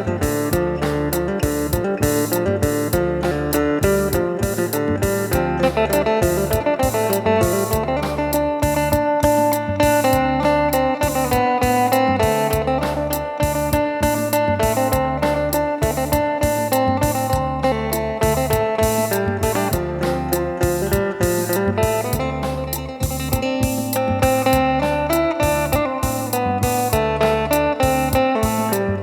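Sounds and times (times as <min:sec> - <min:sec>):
plucked lute melody: 0:00.0 - 0:29.0
steady percussion beat: 0:00.0 - 0:29.0.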